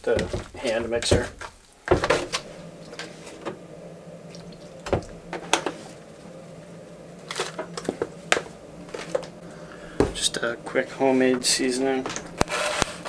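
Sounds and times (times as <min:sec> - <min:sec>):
faint steady hum: 0:00.2 - 0:13.0.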